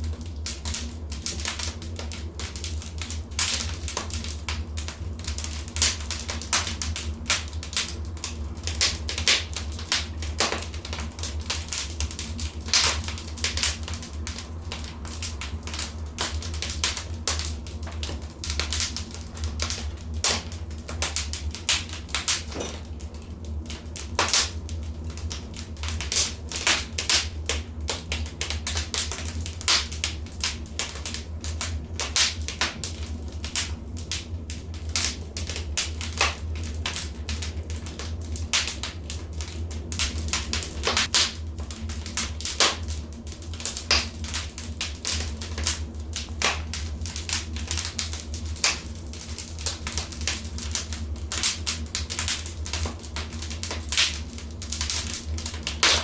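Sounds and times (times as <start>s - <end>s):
steady low rumble: 0.0s - 56.0s
wood fire crackling: 0.0s - 56.0s.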